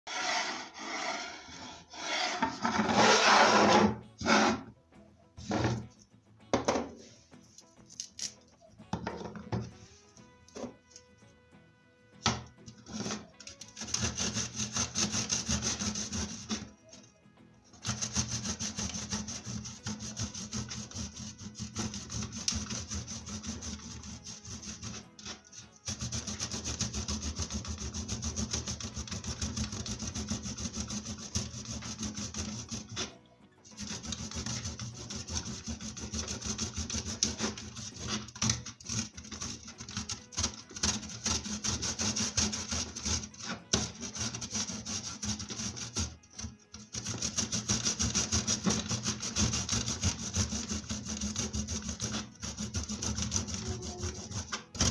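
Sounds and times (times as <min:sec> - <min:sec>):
ginger rasping on metal grater: 0:00.1 - 0:04.7, 0:12.7 - 0:17.1, 0:17.7 - 0:54.9.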